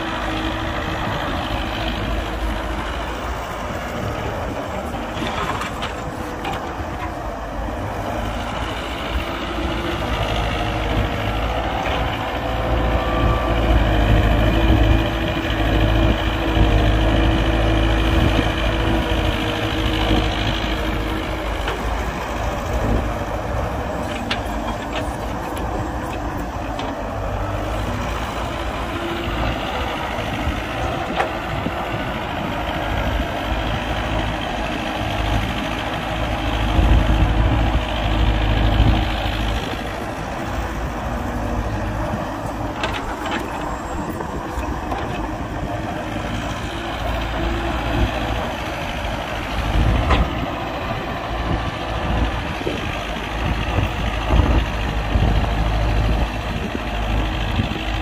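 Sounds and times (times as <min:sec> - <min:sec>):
heavy diesel engines rumbling: 0:00.0 - 0:58.0.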